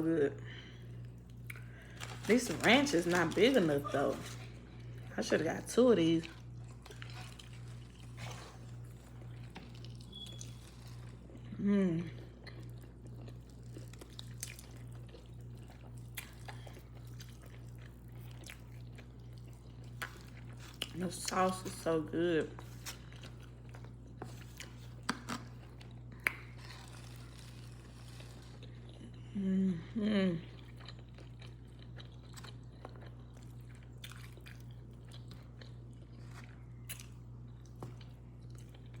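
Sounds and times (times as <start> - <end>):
steady low hum: 0.0 - 39.0
person chewing wetly: 0.9 - 5.1, 6.0 - 21.5, 22.6 - 29.3, 30.5 - 39.0.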